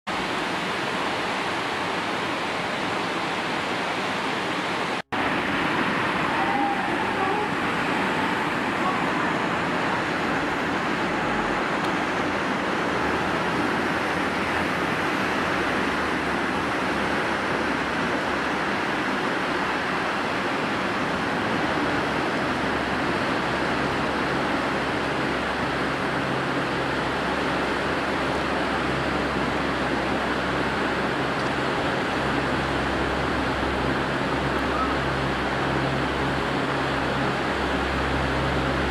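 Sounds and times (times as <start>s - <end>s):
floodwater rushing: 0.1s - 38.9s.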